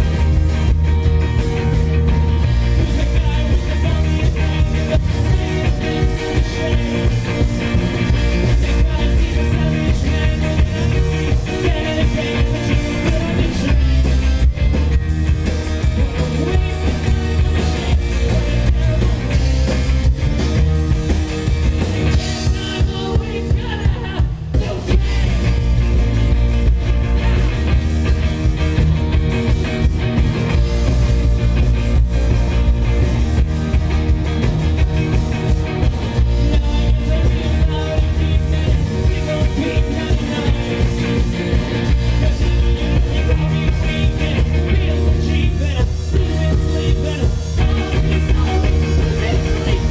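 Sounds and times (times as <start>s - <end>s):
rock band playing live: 0.0s - 49.9s.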